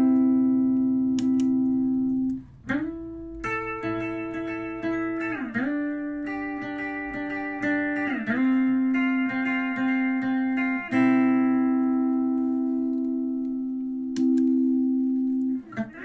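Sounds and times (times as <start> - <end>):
electric guitar notes: 0.0 - 16.0.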